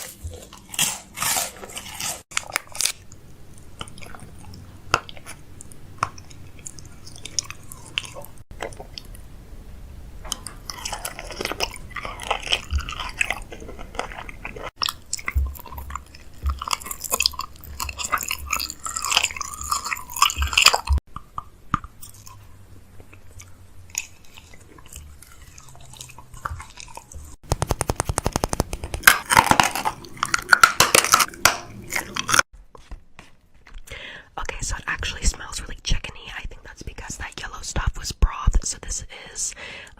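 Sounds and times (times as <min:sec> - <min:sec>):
food crunching and crackling: 0:00.0 - 0:09.4, 0:10.2 - 0:33.9.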